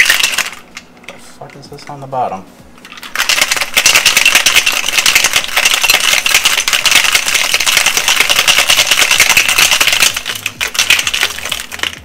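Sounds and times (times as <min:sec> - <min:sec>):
ice rattling in cocktail shaker: 0:00.0 - 0:00.6, 0:02.9 - 0:12.0.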